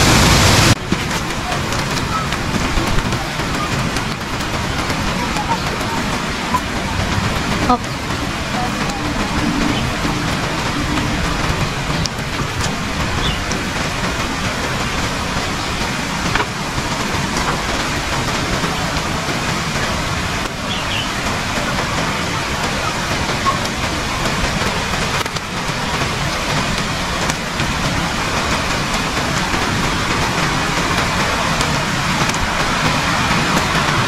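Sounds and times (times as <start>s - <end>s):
falling water roaring: 0.0s - 34.0s.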